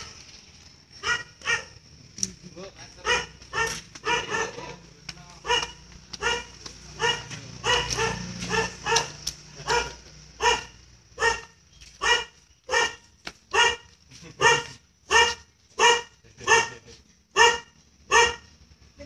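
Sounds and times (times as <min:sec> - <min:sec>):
small dog barking: 0:01.0 - 0:01.8, 0:03.0 - 0:04.8, 0:05.4 - 0:18.5.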